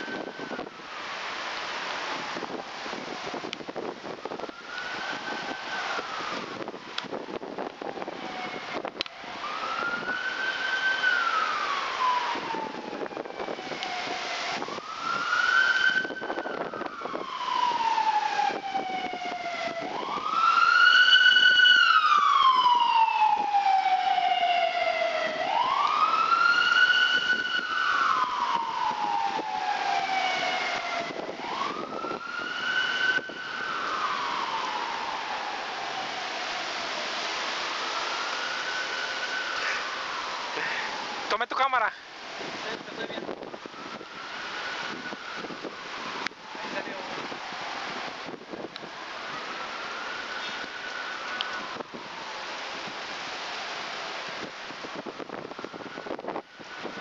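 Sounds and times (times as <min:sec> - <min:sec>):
siren wailing: 0:00.0 - 0:00.8, 0:02.0 - 0:57.0
second siren wailing: 0:00.0 - 0:00.9, 0:01.8 - 0:57.0.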